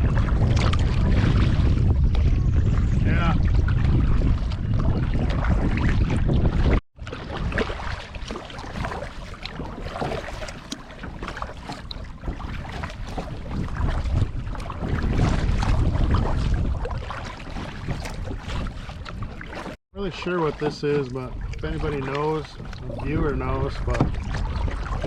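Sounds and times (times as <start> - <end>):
wind buffeting microphone: 0.0 - 25.0
paddle strokes splashing: 3.4 - 25.0.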